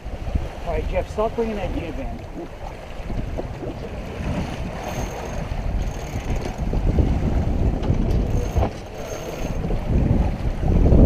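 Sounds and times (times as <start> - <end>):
water washing along hull: 0.0 - 11.0
wind buffeting microphone: 0.0 - 11.0.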